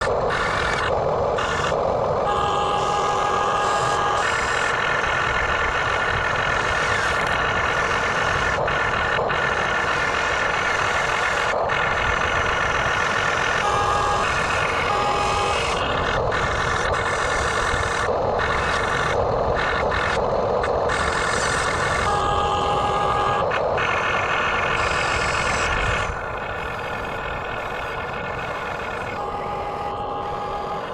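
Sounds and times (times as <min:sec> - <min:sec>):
model excavator mechanical whine: 0:00.0 - 0:30.9.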